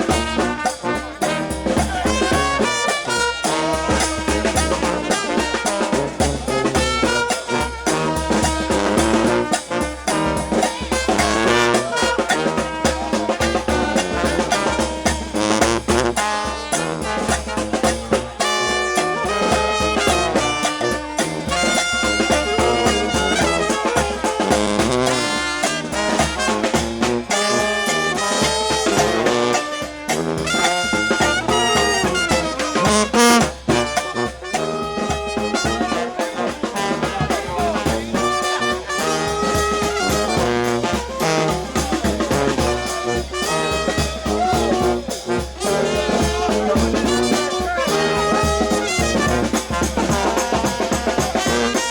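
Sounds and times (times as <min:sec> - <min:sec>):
bass drum and snare beat: 0:00.0 - 0:51.9
brass band playing: 0:00.0 - 0:51.9.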